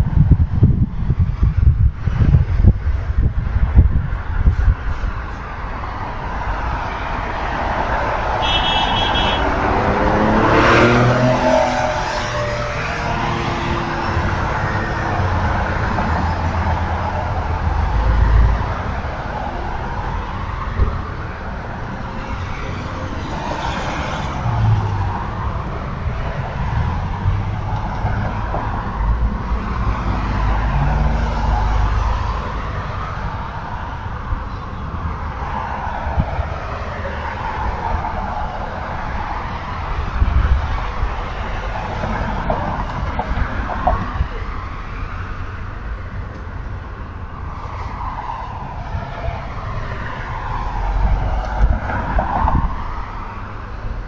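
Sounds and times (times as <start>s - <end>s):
cars passing by: 0.0s - 54.0s.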